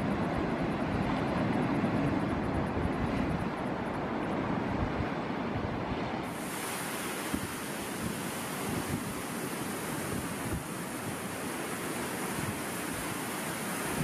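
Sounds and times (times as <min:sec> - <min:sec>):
surf washing: 0:00.0 - 0:14.0
wind rumbling on microphone: 0:00.0 - 0:14.0.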